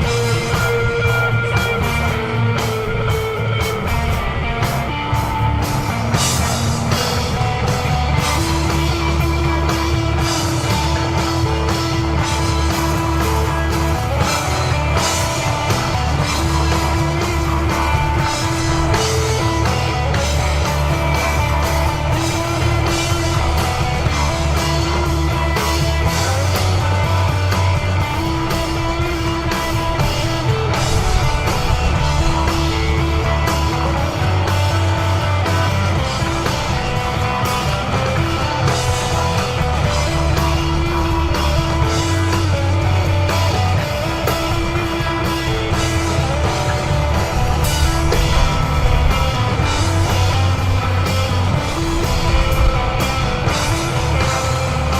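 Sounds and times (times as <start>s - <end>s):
bass guitar: 0.0s - 54.9s
drum kit with cymbals: 0.0s - 54.9s
electric guitar ringing notes: 0.0s - 54.9s.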